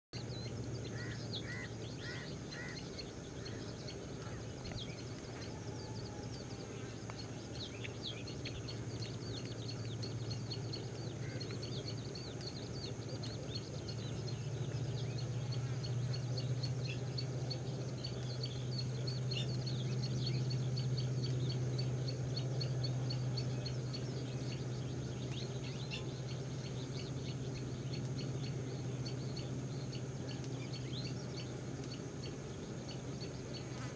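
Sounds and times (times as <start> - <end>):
high insect whine: 0.2 - 33.9
steady low hum: 0.2 - 33.9.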